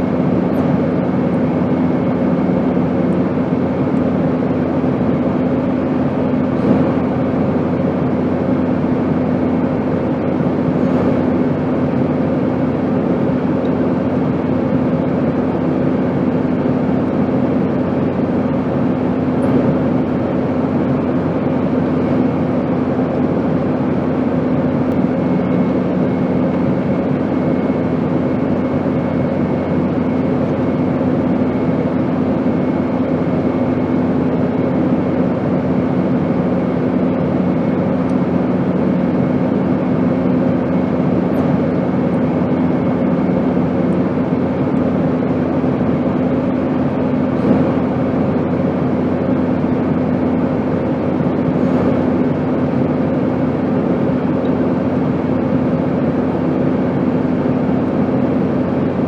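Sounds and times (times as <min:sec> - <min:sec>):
airplane rushing drone: 0:00.0 - 0:59.0
lower hum tone: 0:00.0 - 0:59.0.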